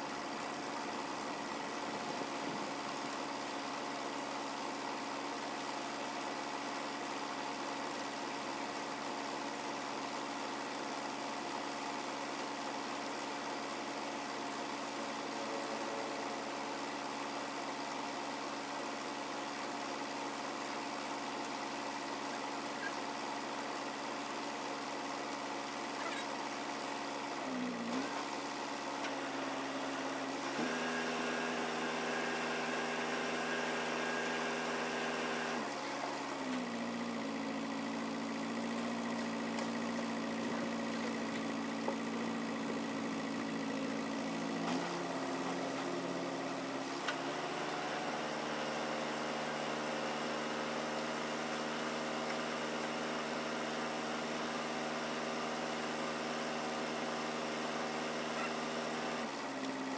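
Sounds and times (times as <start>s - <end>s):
truck engine running under load: 0.0s - 59.9s.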